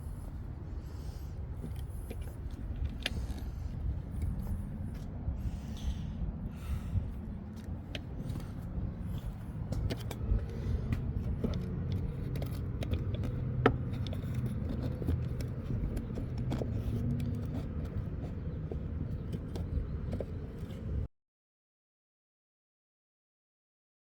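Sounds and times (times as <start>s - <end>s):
car engine rumbling: 0.0s - 21.1s.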